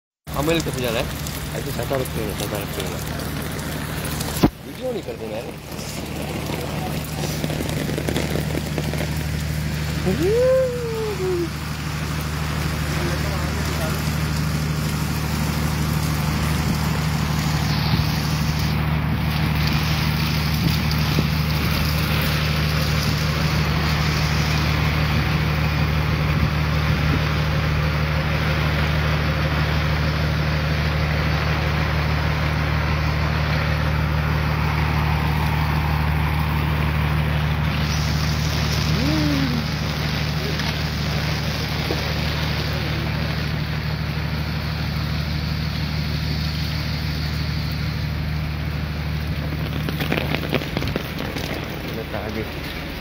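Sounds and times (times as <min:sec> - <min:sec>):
rain pattering on an umbrella: 0:00.3 - 0:29.8, 0:30.6 - 0:53.0.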